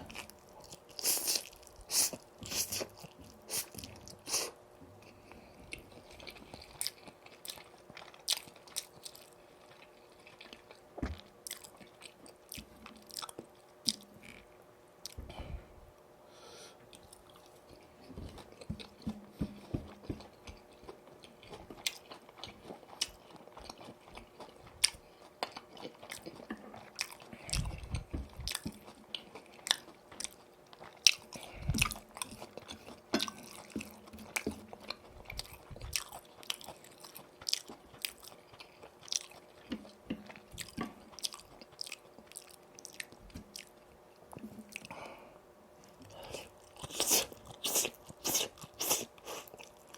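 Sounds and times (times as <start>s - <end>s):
chewing and crunching fried chicken: 0.0s - 15.2s, 16.9s - 49.9s.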